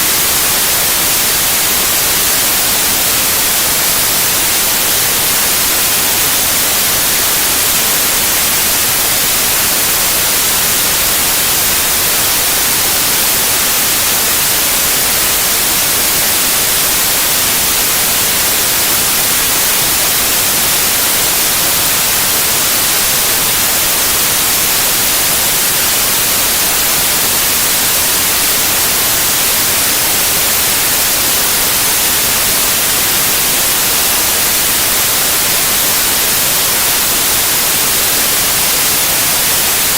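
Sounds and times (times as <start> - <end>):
loud white noise hiss: 0.0 - 39.9.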